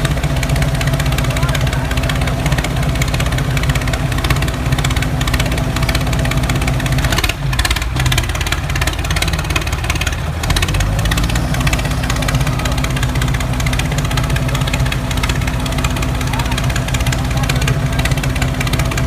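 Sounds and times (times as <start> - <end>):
small motor running with chatter: 0.0 - 19.0.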